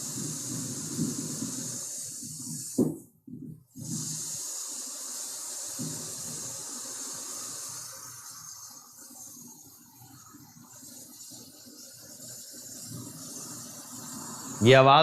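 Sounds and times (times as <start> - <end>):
power line corona hissing: 0.0 - 3.0, 3.8 - 15.0.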